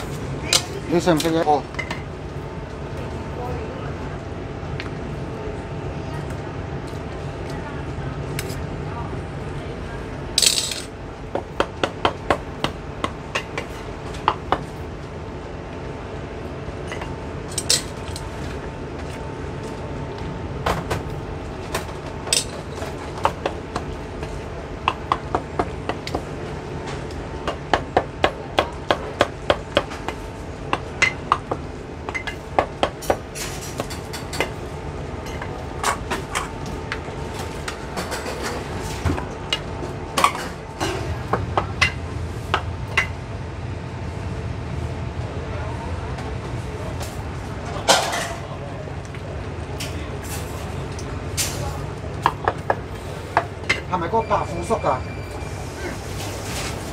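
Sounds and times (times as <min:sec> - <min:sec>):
steady background hum: 0:00.0 - 0:56.9.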